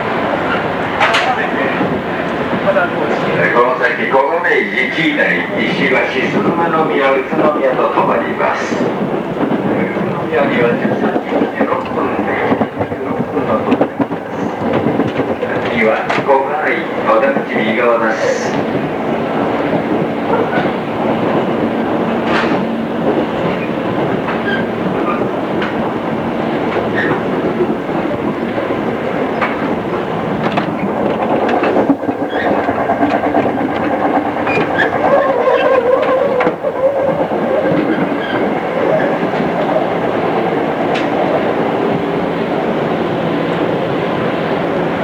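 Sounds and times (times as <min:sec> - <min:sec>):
electric train rumble and hum: 0:00.0 - 0:45.0
wheels clicking over rail joints: 0:00.2 - 0:45.0.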